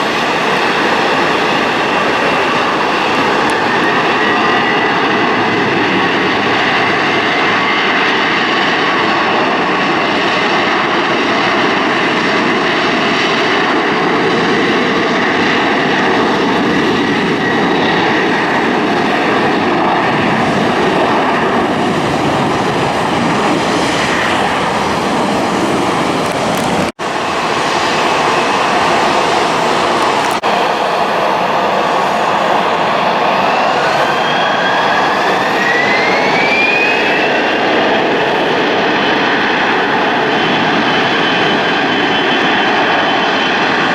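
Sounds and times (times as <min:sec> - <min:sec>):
jet engines roaring with whine: 0:00.0 - 0:43.9.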